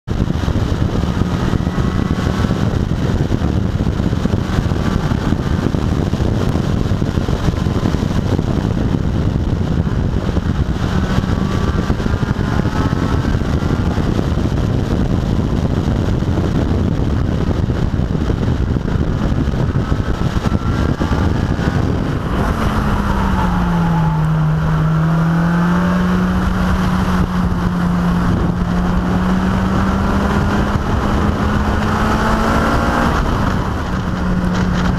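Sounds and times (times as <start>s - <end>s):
car engine accelerating: 0.0s - 34.9s
road noise: 0.0s - 34.9s
wind noise: 0.0s - 34.9s.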